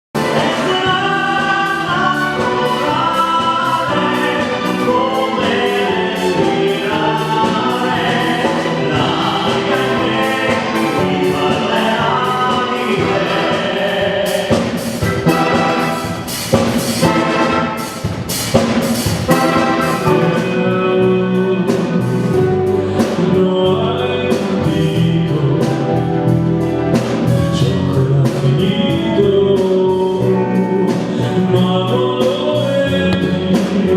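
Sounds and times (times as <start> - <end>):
orchestra with brass and drums: 0.2 - 33.9.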